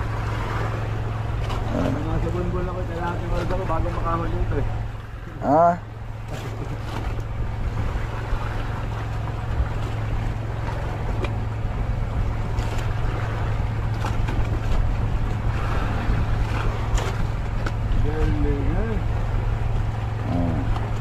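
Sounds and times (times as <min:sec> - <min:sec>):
boat engine drone: 0:00.0 - 0:21.0
water: 0:00.0 - 0:21.0.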